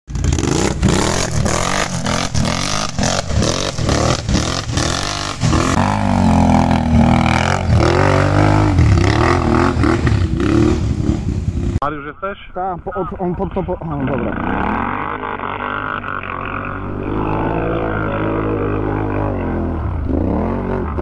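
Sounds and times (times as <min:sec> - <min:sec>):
atv engines revving: 0:00.1 - 0:11.8, 0:12.8 - 0:21.0.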